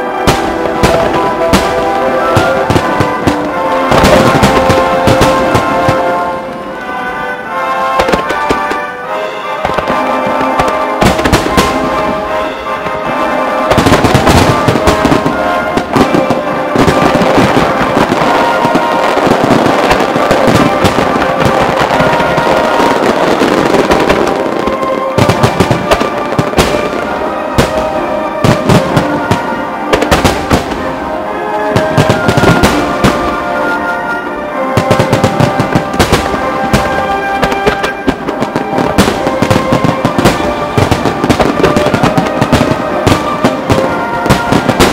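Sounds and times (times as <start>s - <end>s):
fireworks bursting: 0.0s - 44.9s
music: 0.0s - 44.9s.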